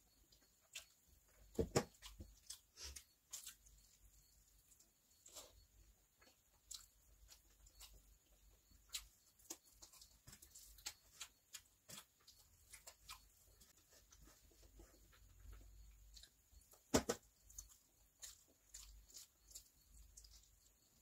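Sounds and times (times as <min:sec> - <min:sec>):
fingers mixing rice on steel plate: 0:00.3 - 0:21.0.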